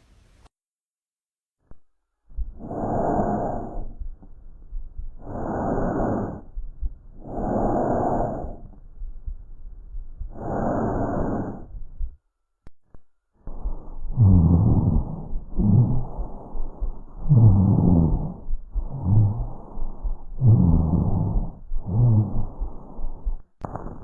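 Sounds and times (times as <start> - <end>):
breaths through chest: 2.4 - 9.5, 10.1 - 12.2, 13.4 - 23.6.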